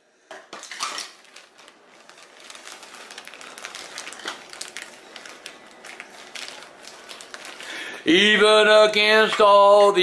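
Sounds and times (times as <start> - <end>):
plastic bag crinkling: 0.5 - 10.0.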